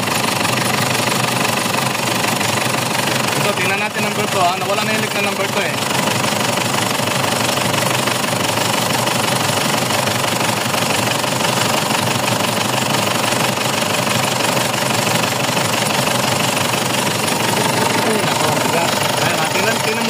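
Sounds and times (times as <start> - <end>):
diesel engine idling with clatter: 0.0 - 20.0.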